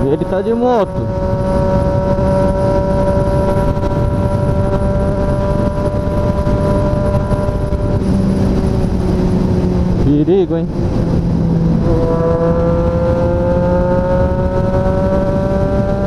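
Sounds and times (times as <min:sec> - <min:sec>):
motorcycle engine cruising: 0:00.0 - 0:16.0
wind rush on microphone: 0:00.0 - 0:16.0.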